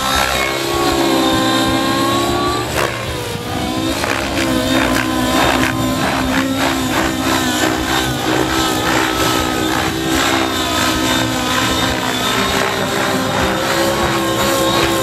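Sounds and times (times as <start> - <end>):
model helicopter engine at high revs: 0.0 - 15.0
rotor blades chopping: 0.0 - 15.0.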